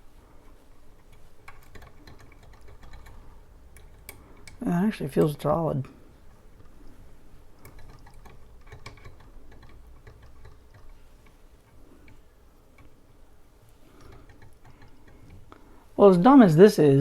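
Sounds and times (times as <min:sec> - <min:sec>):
hands clicking and tapping metal part: 0:00.9 - 0:15.7.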